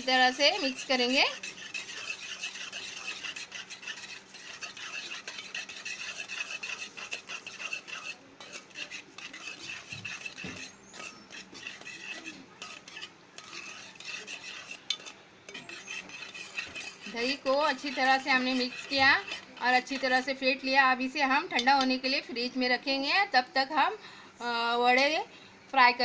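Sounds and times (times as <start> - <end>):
whisk scraping and clinking bowl: 0.0 - 22.1.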